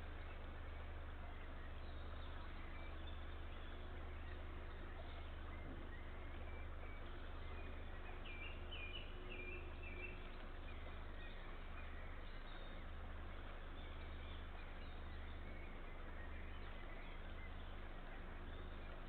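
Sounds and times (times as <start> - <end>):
low hum: 0.0 - 19.0
songbird warbling: 0.0 - 19.0.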